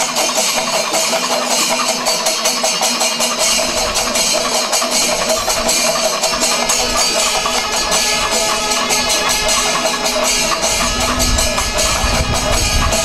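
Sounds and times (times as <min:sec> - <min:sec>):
crowd: 0:00.0 - 0:13.0
drums beaten rapidly: 0:00.0 - 0:13.0.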